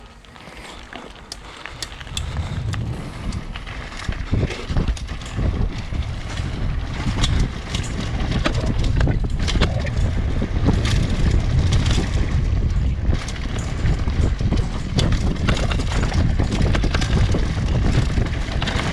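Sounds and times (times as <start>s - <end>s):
bike rattling and knocking: 0.7s - 18.9s
wind buffeting microphone: 1.5s - 18.9s.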